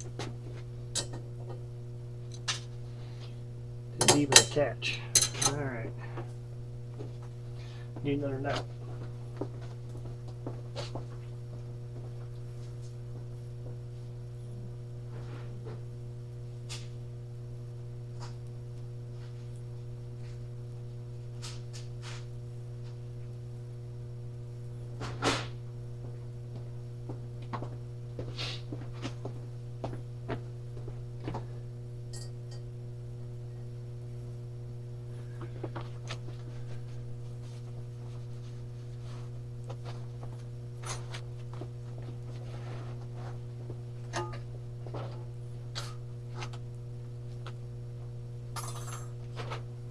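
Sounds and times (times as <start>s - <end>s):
electrical hum: 0.0s - 49.9s.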